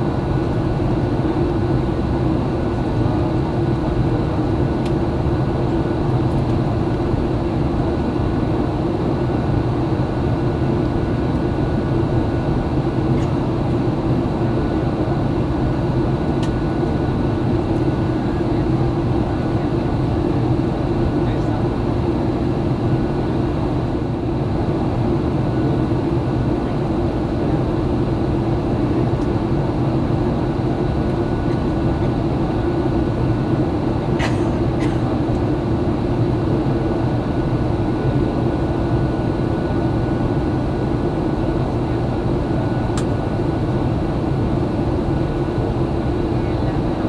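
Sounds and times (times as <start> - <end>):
airplane cabin roar: 0.0 - 47.0.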